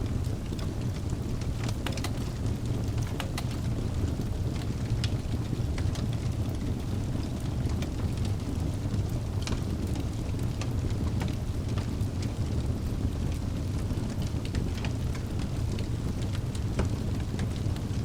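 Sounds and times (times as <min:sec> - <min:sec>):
burning logs crackling and popping: 0:00.0 - 0:18.0
low rumble of flames: 0:00.0 - 0:18.0.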